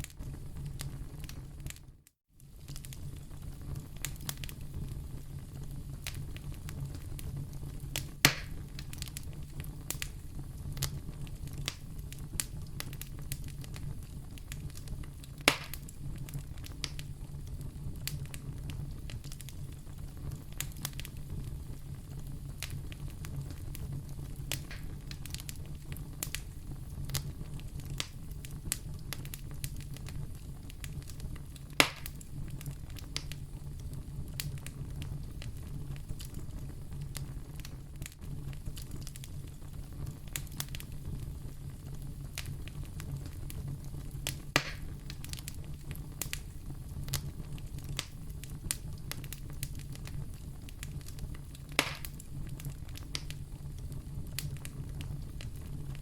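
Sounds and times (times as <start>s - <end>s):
fire pops: 0.0s - 56.0s
fireplace fire crackling: 0.0s - 56.0s
low rumble of fire: 0.0s - 56.0s.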